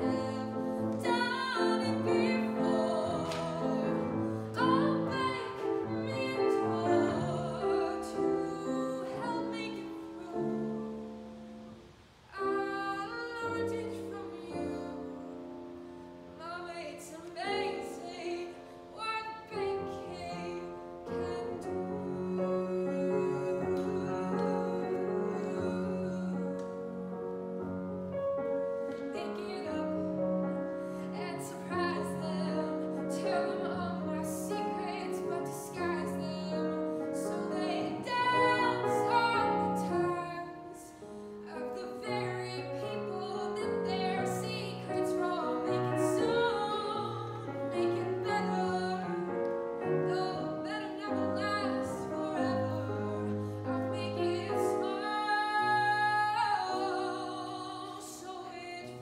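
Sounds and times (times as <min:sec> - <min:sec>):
woman singing: 0:00.0 - 0:11.4, 0:12.3 - 0:27.2, 0:28.9 - 0:59.0
grand piano accompaniment: 0:00.0 - 0:59.0.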